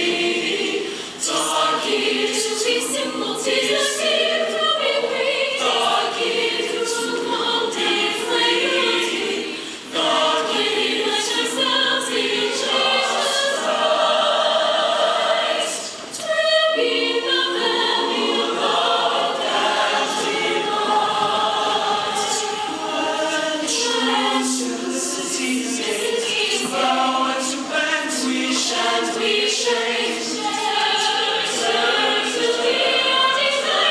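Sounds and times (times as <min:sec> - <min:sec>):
choir singing in harmony: 0:00.0 - 0:33.9.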